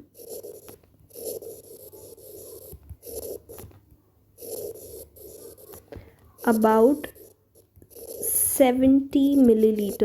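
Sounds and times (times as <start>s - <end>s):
pen scraping on writing surface: 0.0s - 3.8s, 4.4s - 10.0s.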